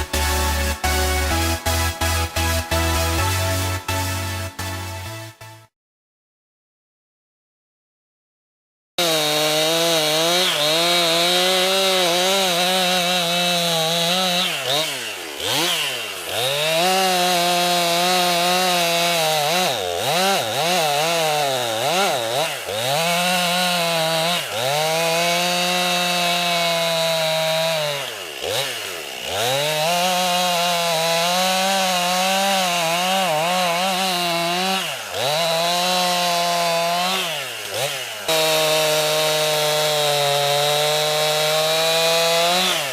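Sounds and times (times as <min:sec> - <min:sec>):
chainsaw cutting wood: 0:00.0 - 0:05.7, 0:09.0 - 0:42.9.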